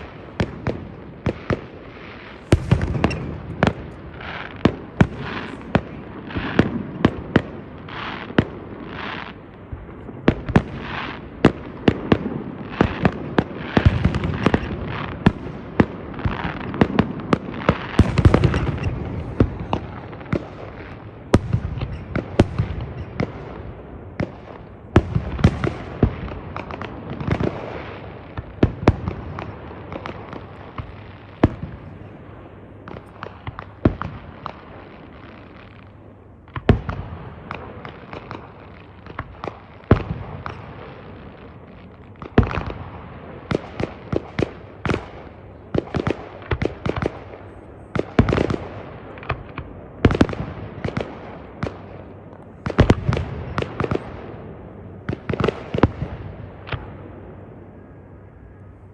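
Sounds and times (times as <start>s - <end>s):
deep fireworks booms: 0.0s - 58.0s
fireworks bangs and crackles: 0.0s - 58.9s.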